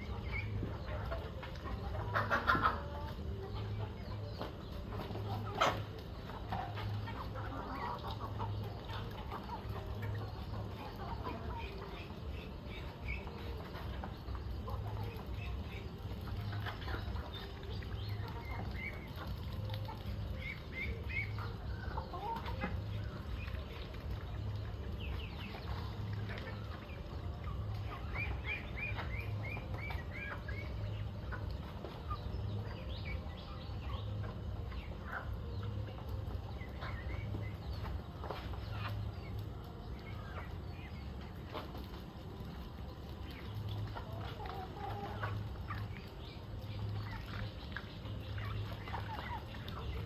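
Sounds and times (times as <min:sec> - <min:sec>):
chickens clucking: 0:00.0 - 0:50.0.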